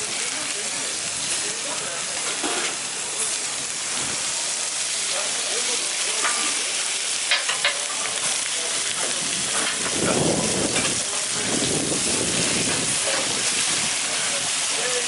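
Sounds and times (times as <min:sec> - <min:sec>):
beef sizzling on a griddle: 0:00.0 - 0:15.0.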